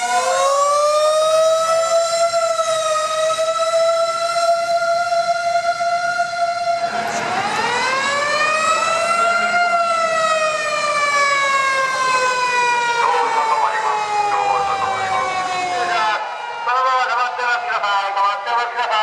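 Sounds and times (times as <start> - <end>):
emergency vehicle siren wailing: 0.0 - 19.0.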